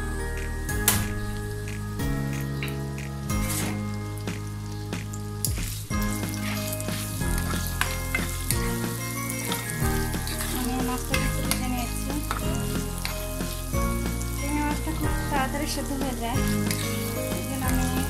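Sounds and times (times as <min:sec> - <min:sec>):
background music: 0:00.0 - 0:18.0
prawns sizzling in hot oil: 0:00.0 - 0:18.0.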